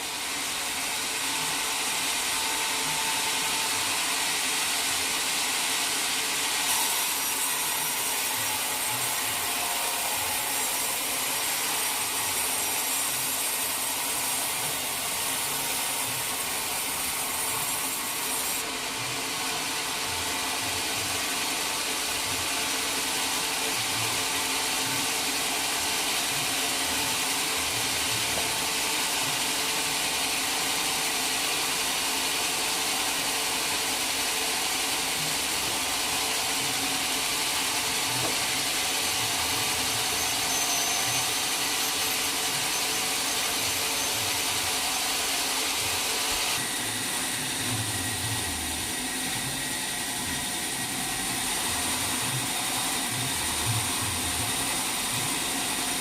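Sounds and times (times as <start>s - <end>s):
sawmill machinery whirring: 0.0s - 56.0s.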